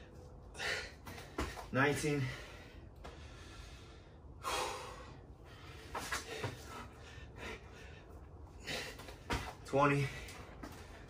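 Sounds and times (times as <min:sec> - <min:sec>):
man breathing hard: 0:00.0 - 0:11.0.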